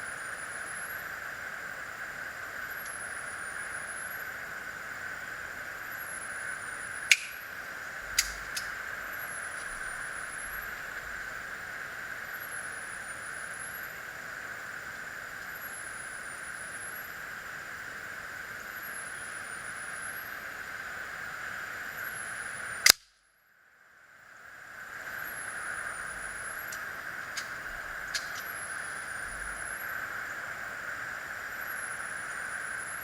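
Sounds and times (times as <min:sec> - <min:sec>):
steady background hiss: 0:00.0 - 0:33.0.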